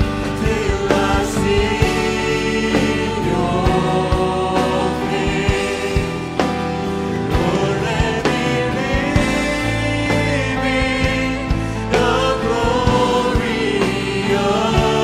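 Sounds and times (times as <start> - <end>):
drum hits: 0.0 - 13.7
voices singing together: 0.0 - 15.0
worship band playing: 0.0 - 15.0.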